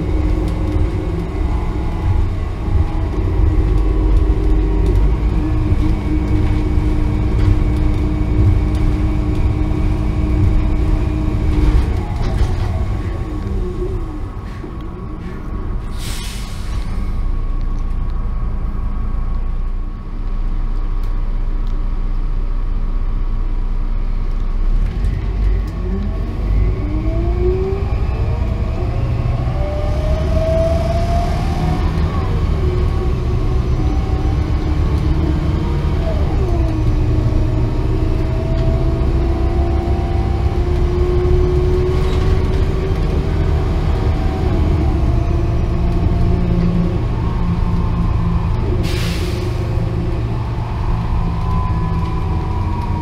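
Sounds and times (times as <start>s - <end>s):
bus accelerating with rising whine: 0.0s - 53.0s
bus engine rumbling: 0.0s - 53.0s.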